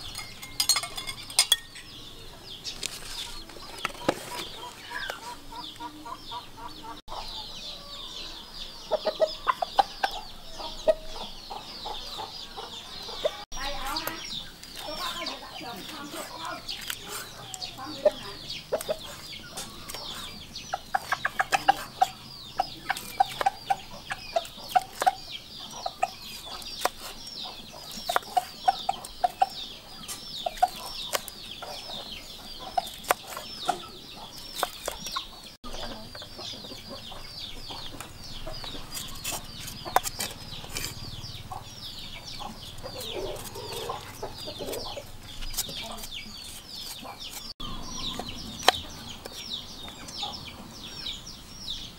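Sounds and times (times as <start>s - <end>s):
hens clucking: 3.2s - 7.9s, 8.8s - 51.1s.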